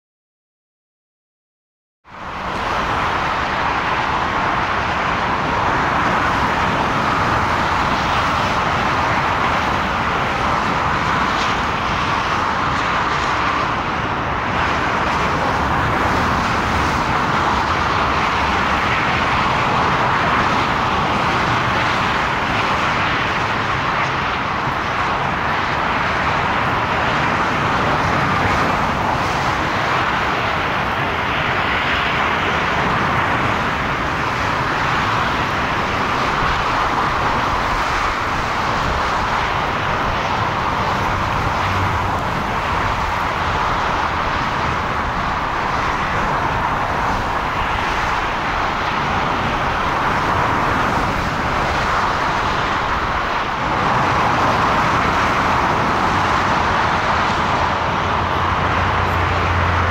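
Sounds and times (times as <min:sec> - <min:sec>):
jet airliner engines on approach: 0:02.1 - 0:59.9.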